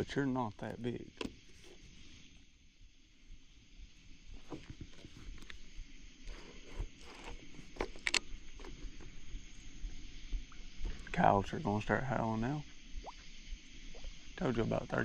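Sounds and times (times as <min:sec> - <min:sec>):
faint high hiss: 0:00.0 - 0:15.0.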